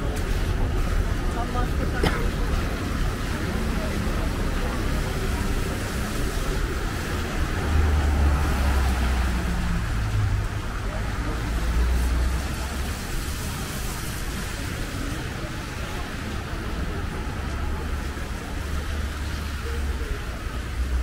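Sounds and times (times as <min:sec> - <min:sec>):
city street traffic: 0:00.0 - 0:21.0
vehicle engine rumble: 0:00.0 - 0:21.0.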